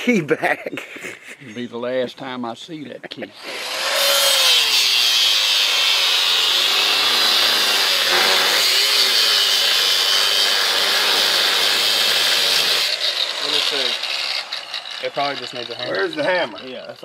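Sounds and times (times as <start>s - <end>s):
angle grinder cutting steel: 3.3s - 17.0s.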